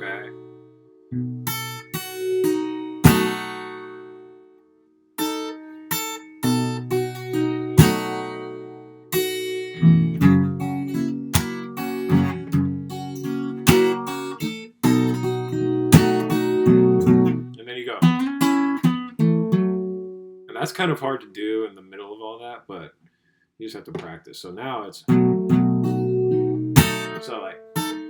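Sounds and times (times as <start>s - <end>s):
fingerstyle acoustic guitar: 0.0s - 4.6s, 5.2s - 20.7s, 25.1s - 28.0s.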